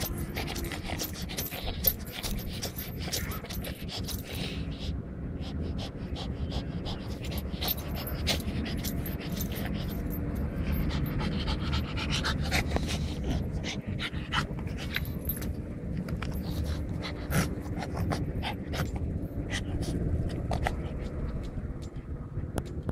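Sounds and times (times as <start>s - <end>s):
dog breathing hard: 0.0s - 21.8s.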